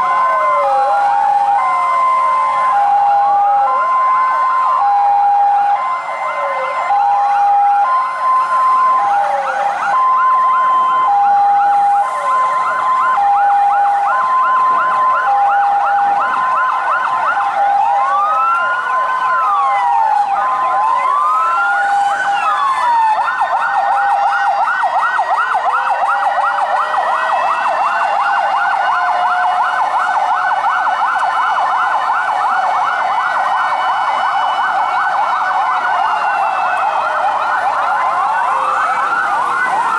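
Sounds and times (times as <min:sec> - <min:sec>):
rapid yelping sirens: 0:00.0 - 0:39.9
slow wailing siren: 0:00.0 - 0:39.9
two-tone hi-lo siren: 0:00.0 - 0:39.9.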